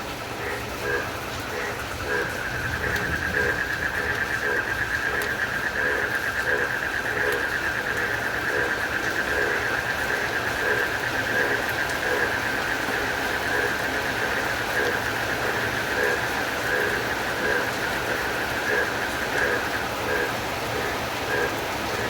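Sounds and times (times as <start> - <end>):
steady rain: 0.0 - 22.0
frog calling: 0.3 - 22.0
crickets chirping: 0.4 - 22.0.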